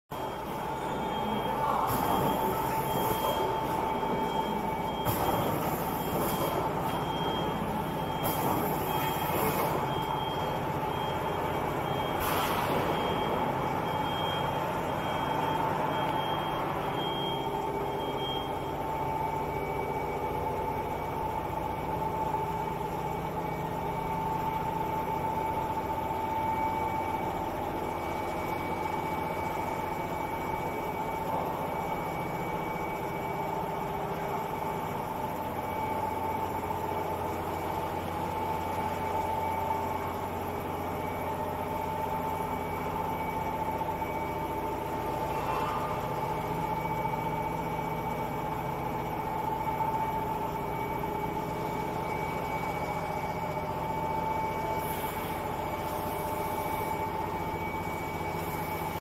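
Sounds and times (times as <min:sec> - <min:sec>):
constant high whine: 0:00.1 - 0:59.0
machine mechanical hum: 0:00.1 - 0:59.0.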